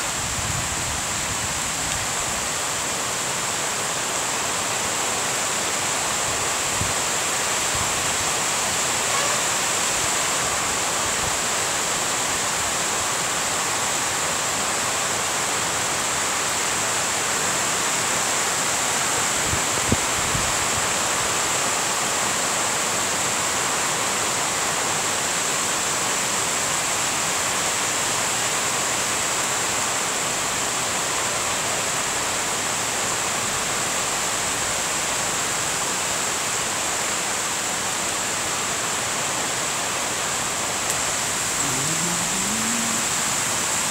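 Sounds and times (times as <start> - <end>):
heavy rain on foliage: 0.0 - 43.9.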